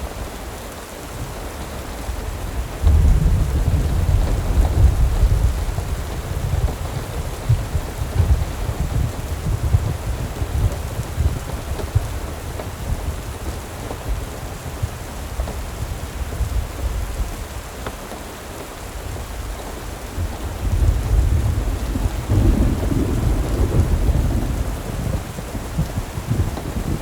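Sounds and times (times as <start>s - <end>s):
steady rain: 0.0s - 27.0s
rolling rumble of thunder: 2.0s - 17.7s, 19.0s - 27.0s.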